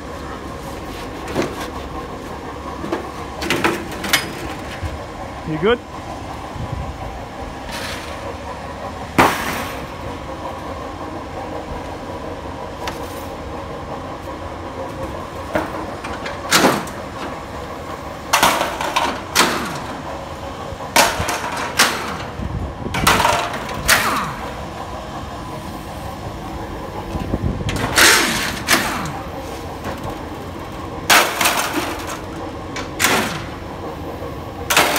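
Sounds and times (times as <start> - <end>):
steady background hum: 0.0 - 34.9.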